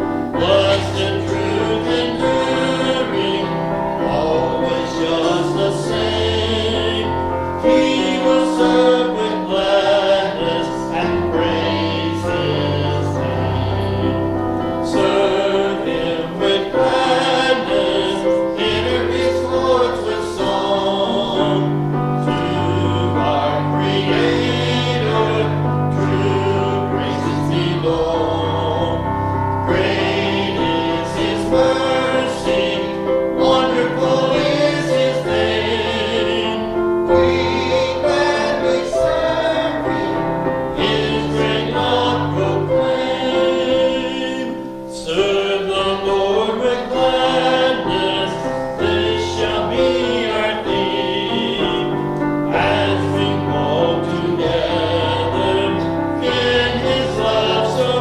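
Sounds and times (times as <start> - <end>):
congregation singing a hymn: 0.0 - 58.0
instrumental accompaniment: 0.0 - 58.0.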